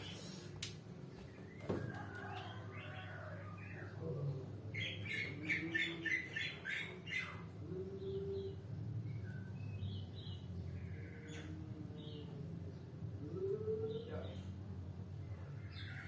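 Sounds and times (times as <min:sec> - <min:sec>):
steady low hum: 0:02.6 - 0:16.0.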